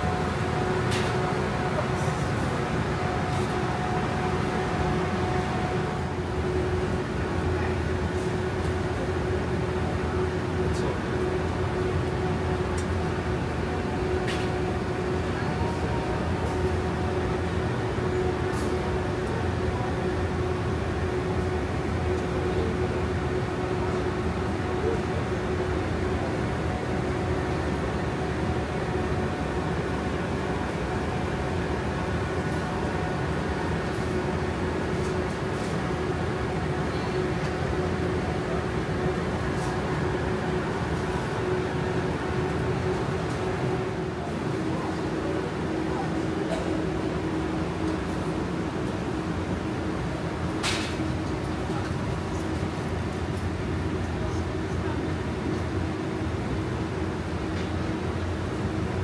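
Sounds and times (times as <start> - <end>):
supermarket background hum: 0.0 - 59.0.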